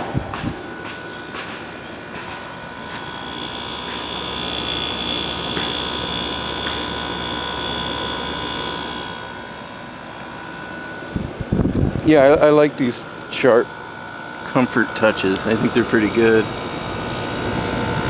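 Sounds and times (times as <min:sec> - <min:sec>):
air conditioner fan rushing: 0:00.0 - 0:18.0
high whine: 0:00.0 - 0:18.0.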